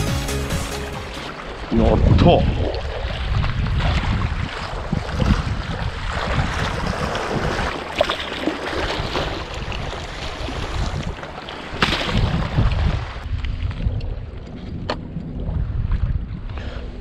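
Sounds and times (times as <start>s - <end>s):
sea wash: 0.0s - 17.0s
wind buffeting microphone: 1.7s - 7.9s, 8.8s - 17.0s.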